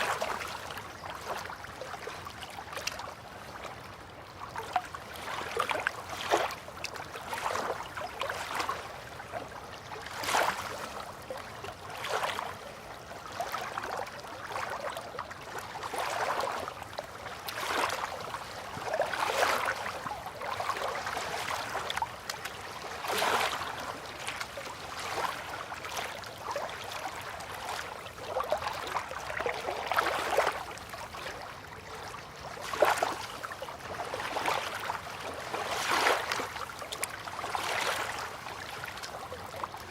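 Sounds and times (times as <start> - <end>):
river water lapping at bank: 0.0 - 39.9.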